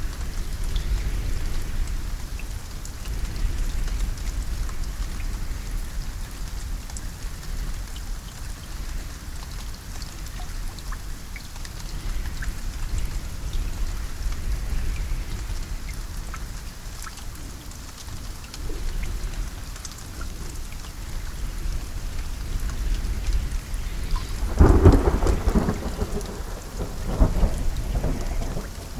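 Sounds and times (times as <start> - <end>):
raindrops ticking on a surface: 0.0 - 28.9
steady rain: 0.0 - 28.9.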